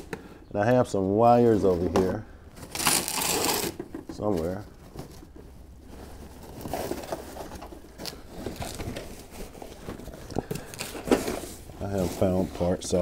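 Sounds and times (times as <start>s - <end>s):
plastic bag rustling: 2.5s - 13.0s.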